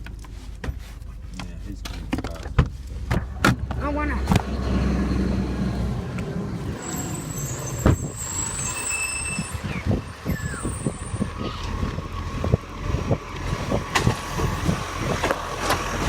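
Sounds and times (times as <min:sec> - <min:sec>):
garbage truck diesel engine: 0:02.8 - 0:16.0.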